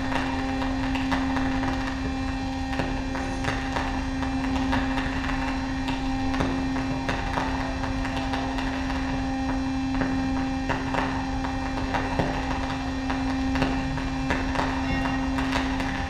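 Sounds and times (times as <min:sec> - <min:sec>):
low hum drone: 0:00.0 - 0:16.0
rumbling noise: 0:00.0 - 0:16.0.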